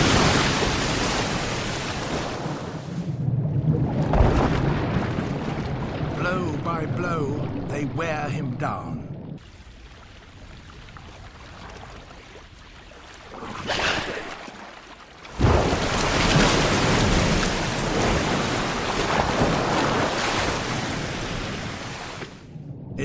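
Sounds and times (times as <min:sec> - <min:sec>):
heavy splash: 0:00.0 - 0:08.4, 0:09.4 - 0:22.4
churning crashing water: 0:00.0 - 0:22.6
sea water lapping: 0:03.8 - 0:22.5
water rushing: 0:04.0 - 0:22.5.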